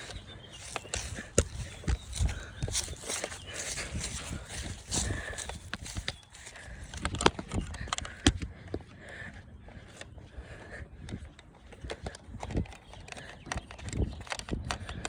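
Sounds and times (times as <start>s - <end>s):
footsteps: 0.0s - 12.6s.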